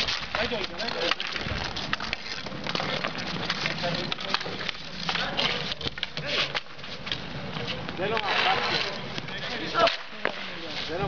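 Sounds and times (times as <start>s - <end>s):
hockey sticks clacking: 0.0s - 11.0s.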